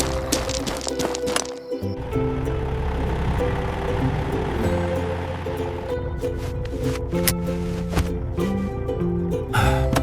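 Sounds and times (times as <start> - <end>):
held notes music: 0.0 - 10.0
steady bass line: 1.9 - 10.0.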